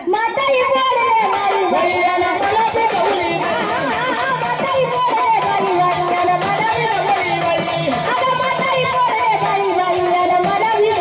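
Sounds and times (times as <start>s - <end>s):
jingling percussion: 0.0s - 11.0s
woman singing: 0.0s - 11.0s
drums played with sticks: 0.2s - 11.0s.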